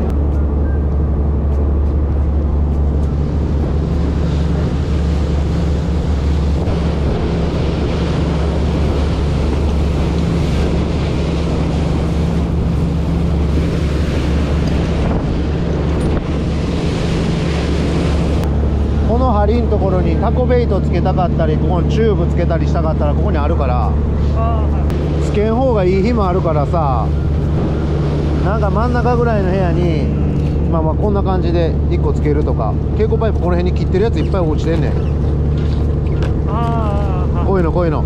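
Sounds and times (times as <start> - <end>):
wind buffeting microphone: 0.0 - 21.1, 23.3 - 37.1
boat engine humming: 0.0 - 38.0.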